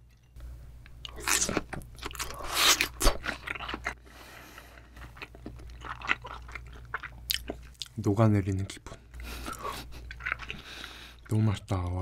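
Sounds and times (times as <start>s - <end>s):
close chewing with wet mouth sounds: 1.0s - 4.0s, 4.6s - 12.0s.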